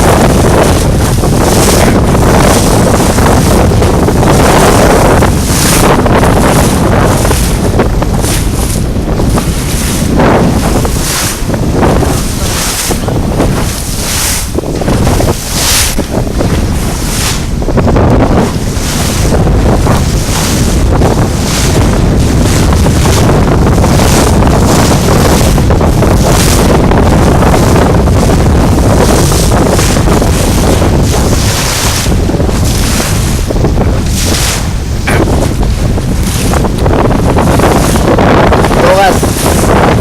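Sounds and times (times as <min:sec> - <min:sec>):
strong wind buffeting microphone: 0:00.0 - 0:40.0.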